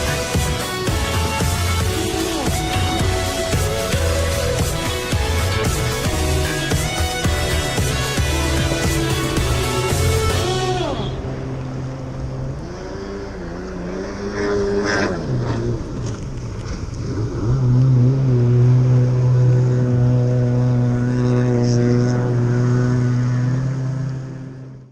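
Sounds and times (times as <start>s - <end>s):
jet ski engine running: 0.0s - 24.9s.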